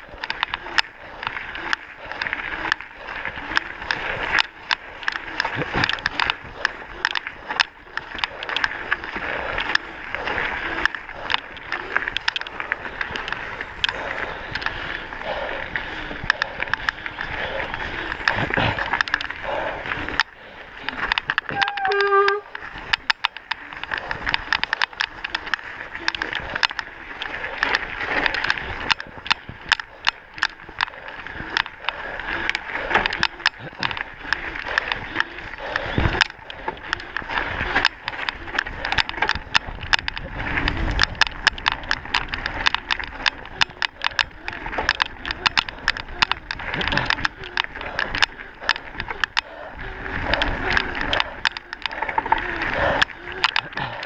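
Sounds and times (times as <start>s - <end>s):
bike clicking and rattling: 0.0s - 54.0s
bike tyres on gravel: 0.0s - 54.0s
wind on microphone: 0.0s - 54.0s.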